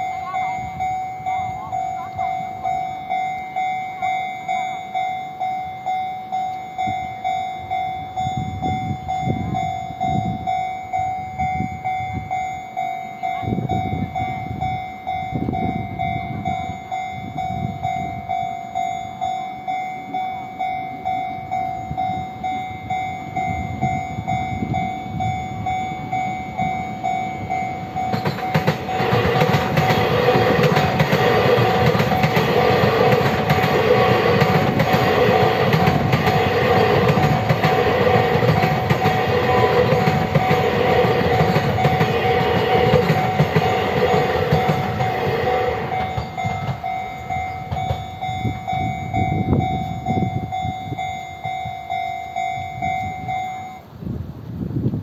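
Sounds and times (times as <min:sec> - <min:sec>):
level-crossing bell ringing: 0:00.0 - 0:53.9
train rumbling across crossing: 0:00.0 - 0:55.0.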